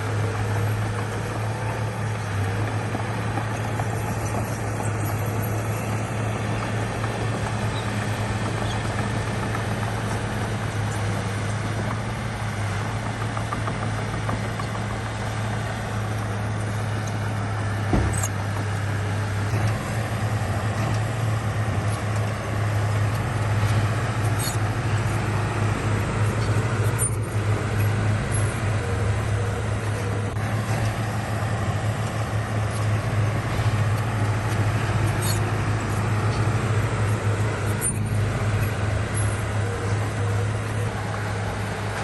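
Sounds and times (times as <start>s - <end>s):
heavy diesel engine droning: 0.0s - 42.0s.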